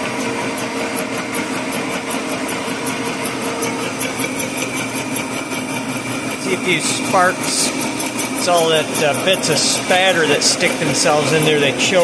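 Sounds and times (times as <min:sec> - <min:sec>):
boring mill cutting metal: 0:00.0 - 0:12.0.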